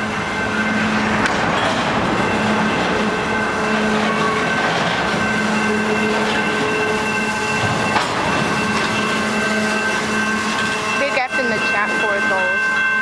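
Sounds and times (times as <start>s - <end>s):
freight train cars rumbling: 0.0s - 13.0s
squealing wheels and brakes: 0.1s - 12.9s.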